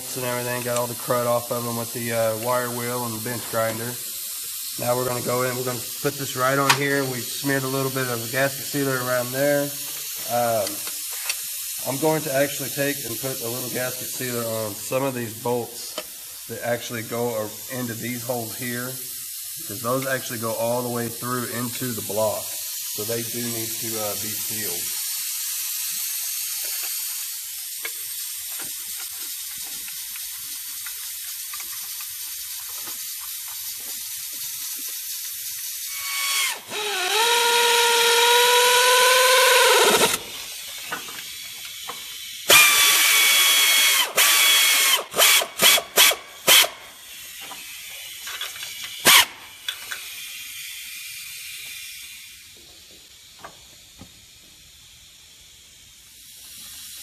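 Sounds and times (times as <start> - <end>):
air tool hissing: 0.0 - 57.0
air tool short bursts: 0.0 - 57.0
air tool whining: 0.0 - 57.0.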